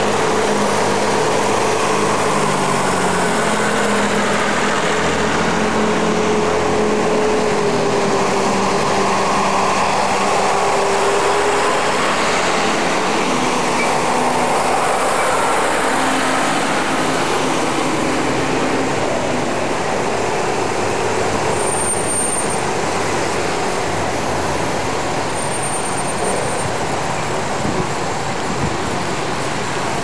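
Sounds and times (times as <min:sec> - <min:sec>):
tractor diesel engine drone: 0:00.0 - 0:30.0.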